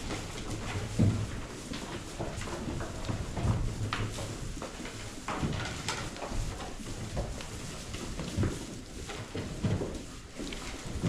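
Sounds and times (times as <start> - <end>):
hooves shuffling and clattering: 0.0 - 11.0.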